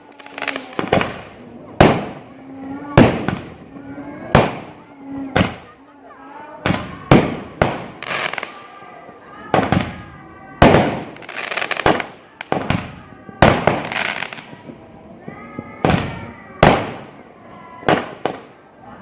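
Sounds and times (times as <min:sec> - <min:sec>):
firework bangs: 0:00.0 - 0:05.9, 0:06.6 - 0:18.7
firework crackle: 0:00.0 - 0:19.0.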